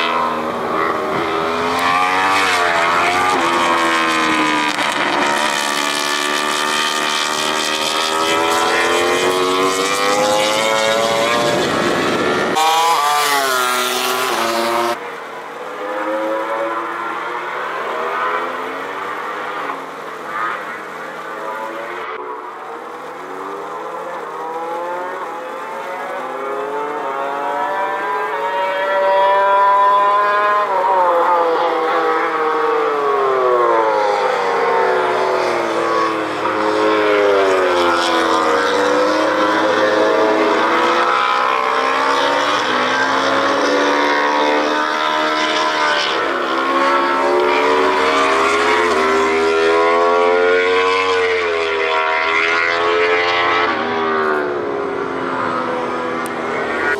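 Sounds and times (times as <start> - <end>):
racing motorcycle engines: 0.0 - 56.9.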